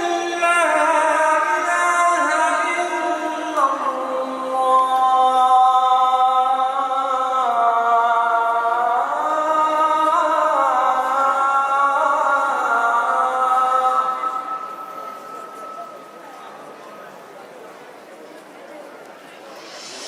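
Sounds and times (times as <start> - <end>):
person chanting call to prayer: 0.0 - 17.1.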